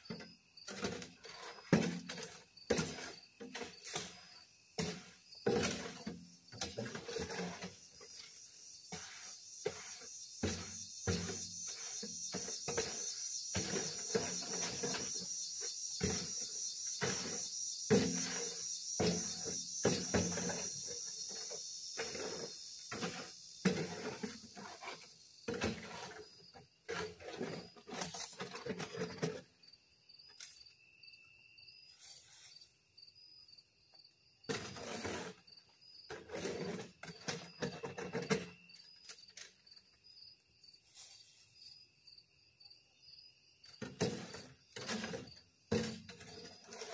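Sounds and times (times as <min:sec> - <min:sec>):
hand tool scraping ground: 0:00.0 - 0:29.5, 0:31.9 - 0:32.7, 0:34.5 - 0:39.6, 0:40.8 - 0:41.7, 0:43.8 - 0:46.9
crickets chirping: 0:00.0 - 0:46.9.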